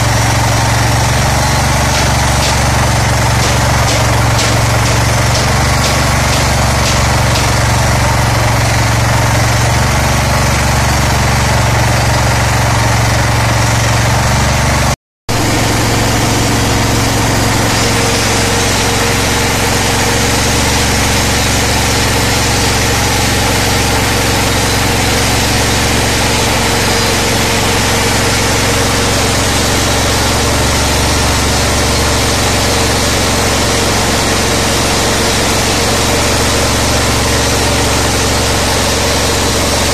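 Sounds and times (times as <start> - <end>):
paddy huller running: 0.0 - 39.9
small petrol engine running: 0.0 - 39.9.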